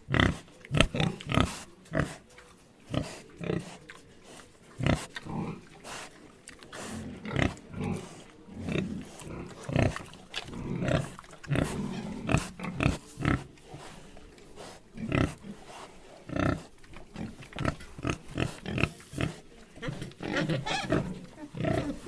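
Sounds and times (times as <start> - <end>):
pigs grunting: 0.0 - 14.0, 14.6 - 22.0.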